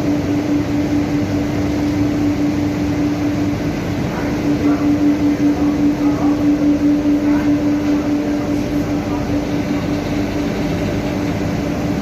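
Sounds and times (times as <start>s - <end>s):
industrial furnace hum: 0.0s - 12.0s
pulsing humming tone: 0.0s - 12.0s.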